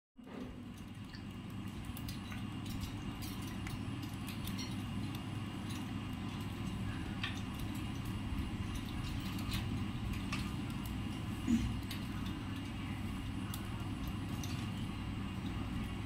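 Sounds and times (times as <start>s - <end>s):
birds clicking on cage floor: 0.3s - 16.0s.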